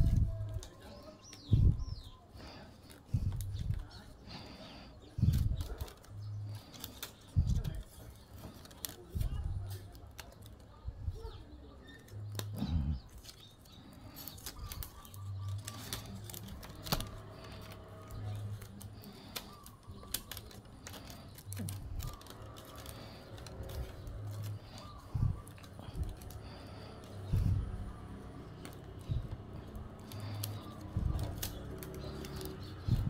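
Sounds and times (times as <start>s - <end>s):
bamboo strips clicking and rattling: 0.0s - 33.0s.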